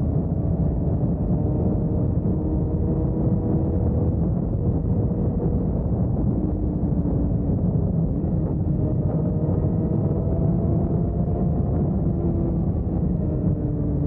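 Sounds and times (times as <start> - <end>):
motorcycle engine drone: 0.0 - 14.0
wind buffeting microphone: 0.0 - 14.0.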